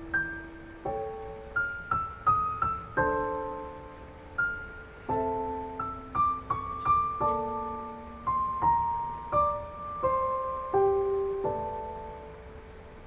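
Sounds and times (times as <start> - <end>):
soft solo piano: 0.0 - 13.0.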